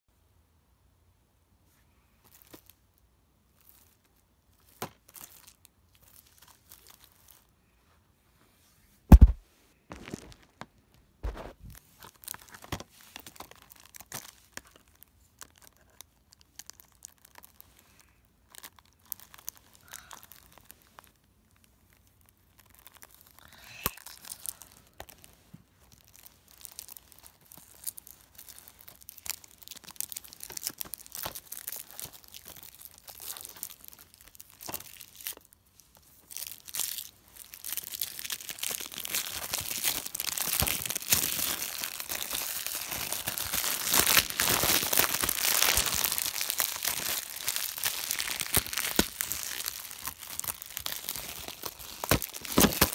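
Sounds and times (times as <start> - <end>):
plastic shrink wrap crinkling: 2.1 - 2.8, 3.5 - 7.5, 9.1 - 52.9.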